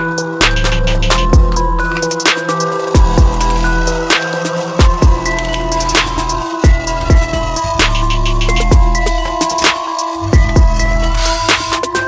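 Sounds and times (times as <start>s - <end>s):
electronic music with heavy bass: 0.0s - 12.0s
steady drum beat: 0.2s - 12.0s.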